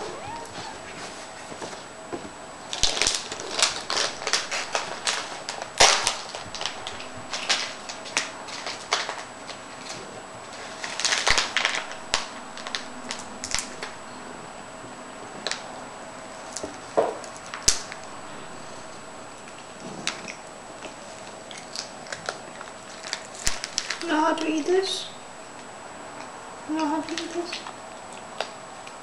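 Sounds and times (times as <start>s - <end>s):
cats crunching dry treats: 2.7s - 14.0s, 16.4s - 25.0s, 25.6s - 29.0s.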